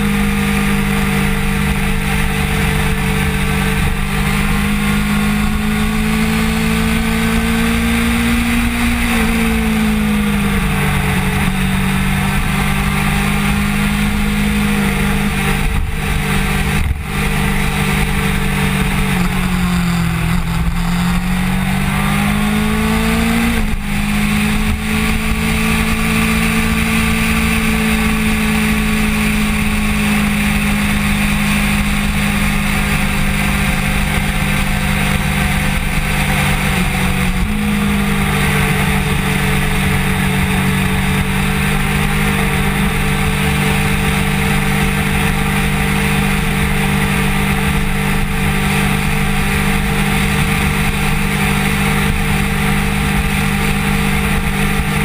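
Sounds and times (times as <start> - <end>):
motorcycle engine running: 0.0 - 55.0
wind rushing on camera: 0.0 - 55.0.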